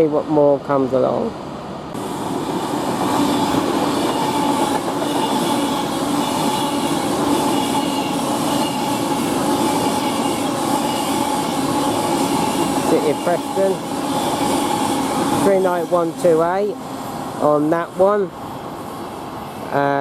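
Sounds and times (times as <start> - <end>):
train wheels rumbling on rails: 1.9 - 20.0.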